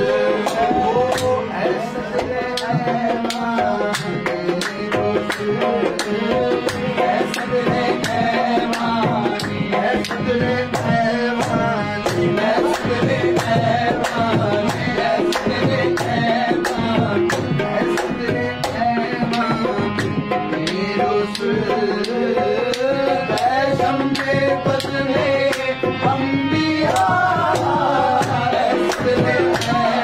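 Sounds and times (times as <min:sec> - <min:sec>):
person singing devotional song: 0:00.0 - 0:30.0
tabla beat: 0:00.0 - 0:30.0.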